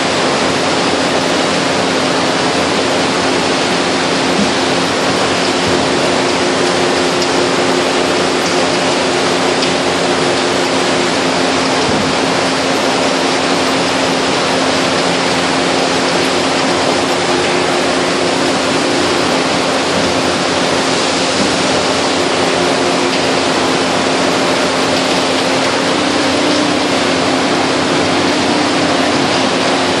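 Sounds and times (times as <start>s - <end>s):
baler machine running: 0.0s - 30.0s
steady hum: 0.0s - 30.0s.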